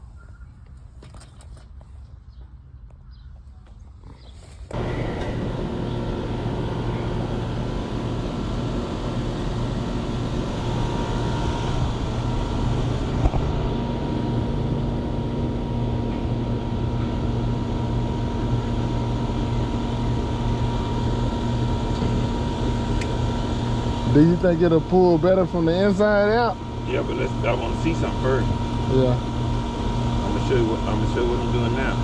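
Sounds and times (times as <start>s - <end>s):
hvac motor humming: 4.7s - 32.0s.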